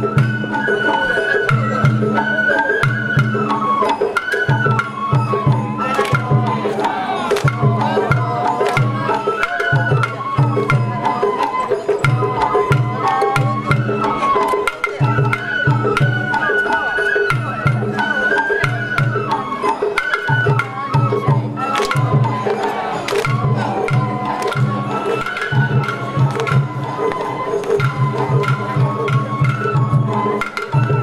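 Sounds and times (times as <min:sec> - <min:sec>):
taiko drum beat: 0:00.0 - 0:11.2, 0:12.0 - 0:16.5, 0:17.3 - 0:31.0
bamboo flute melody: 0:00.0 - 0:31.0.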